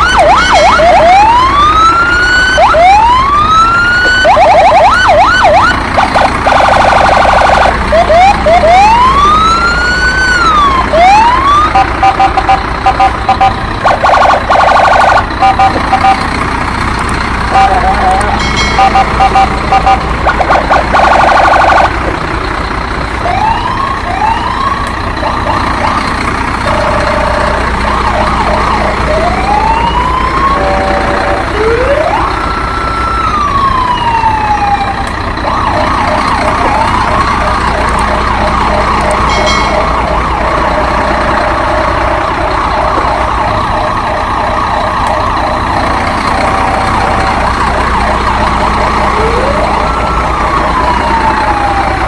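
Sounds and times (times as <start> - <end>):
fast pulsing siren yelp: 0.0 - 16.2, 17.5 - 22.0, 23.2 - 52.0
toy sirens wailing: 0.0 - 16.4, 17.4 - 52.0.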